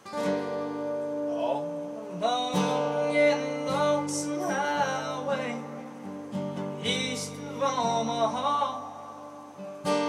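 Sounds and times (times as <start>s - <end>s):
acoustic guitar: 0.0s - 10.0s
man singing: 1.3s - 9.5s.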